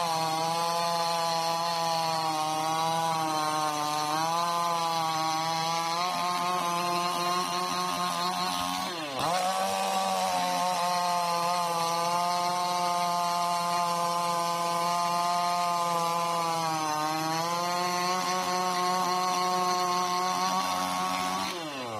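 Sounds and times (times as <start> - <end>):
chainsaw engine running: 0.0 - 21.9.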